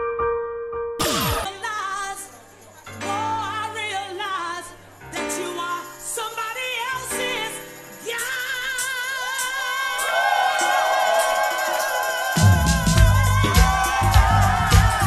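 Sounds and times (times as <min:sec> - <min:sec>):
singing with vibrato: 0:01.1 - 0:15.0.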